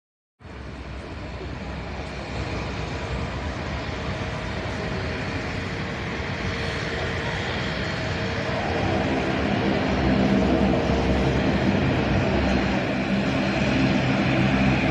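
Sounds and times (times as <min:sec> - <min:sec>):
jet engines running: 0:00.5 - 0:14.9.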